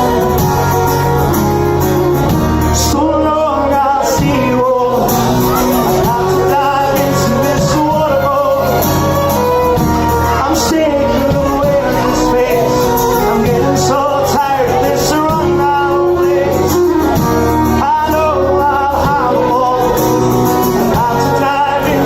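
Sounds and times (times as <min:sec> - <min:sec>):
guitar-led live band music: 0:00.0 - 0:22.0.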